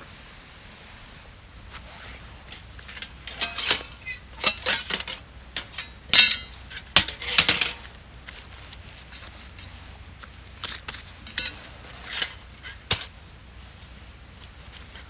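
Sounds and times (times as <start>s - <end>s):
metal camp gear clattering: 2.4s - 15.0s.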